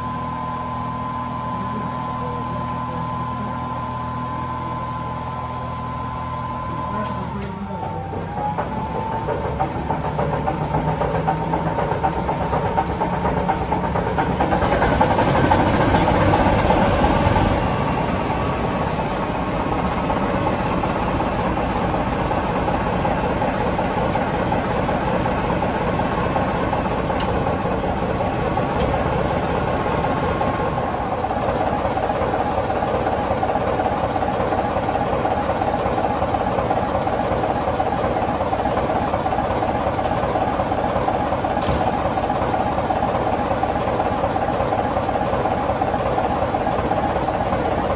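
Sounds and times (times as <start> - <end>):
diesel locomotive engine idling: 0.0 - 47.9.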